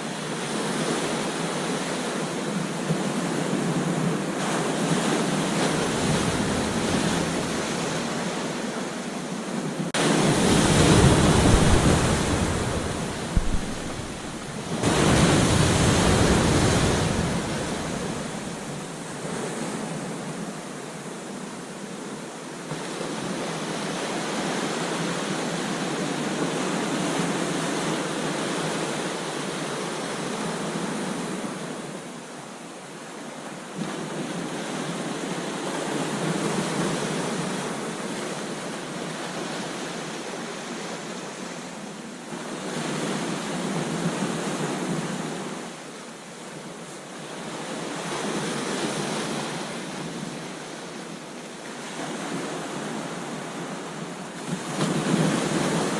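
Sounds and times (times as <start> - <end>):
ocean surf breaking on a beach: 0.0 - 55.9.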